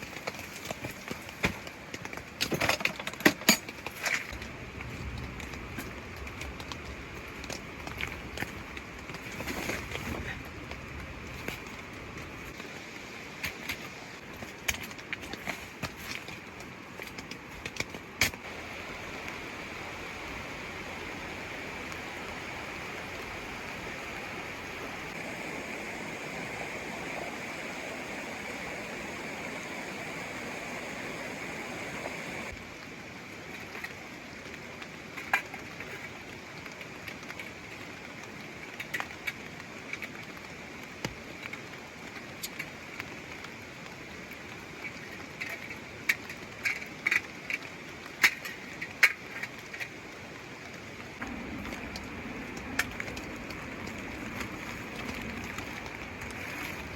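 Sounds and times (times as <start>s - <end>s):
mountain stream rushing: 0.0s - 56.9s
rain: 0.0s - 56.9s.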